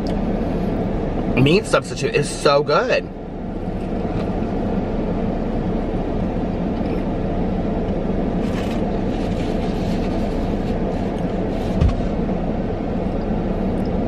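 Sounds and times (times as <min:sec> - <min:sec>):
climate fan running: 0:00.0 - 0:14.0.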